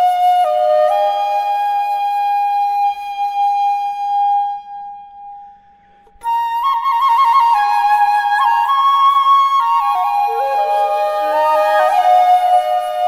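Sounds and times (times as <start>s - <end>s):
solo flute music: 0.0s - 13.0s.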